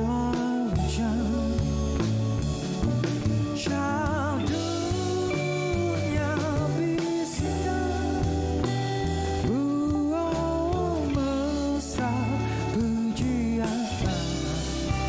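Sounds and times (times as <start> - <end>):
man singing a slow ballad: 0.0 - 2.8, 3.4 - 15.0
live band playing: 0.0 - 15.0.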